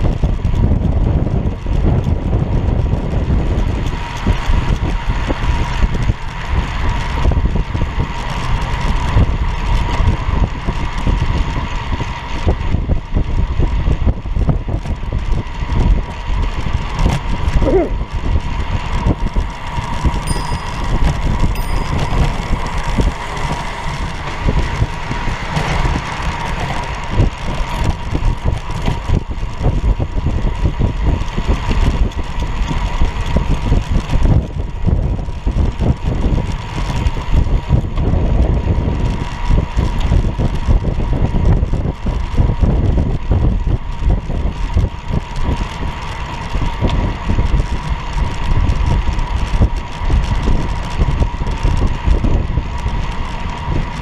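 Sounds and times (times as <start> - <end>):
tyre noise on pavement: 0.0 - 54.0
wind buffeting microphone: 0.0 - 54.0.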